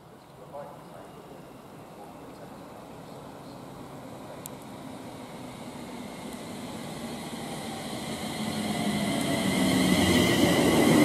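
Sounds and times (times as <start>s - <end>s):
electric train approaching: 0.0s - 11.0s.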